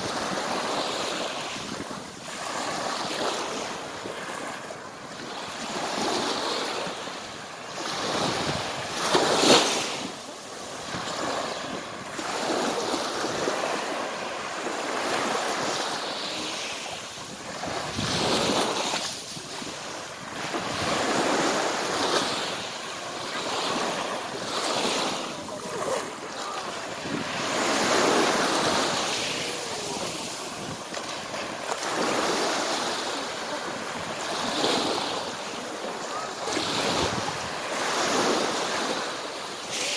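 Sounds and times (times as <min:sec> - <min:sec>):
waves washing up a pebble beach: 0:00.0 - 0:39.9.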